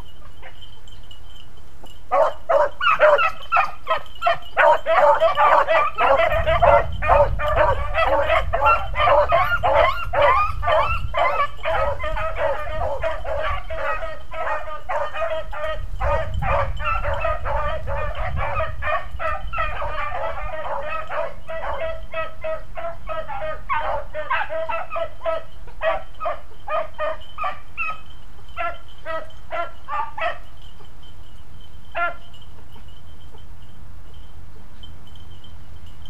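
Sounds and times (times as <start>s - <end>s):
pack of beagles baying: 2.1s - 30.5s, 31.9s - 32.9s.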